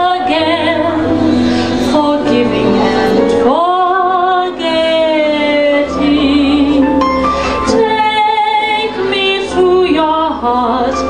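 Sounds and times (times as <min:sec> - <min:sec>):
backing accompaniment: 0:00.0 - 0:11.0
woman singing a ballad: 0:00.0 - 0:11.0.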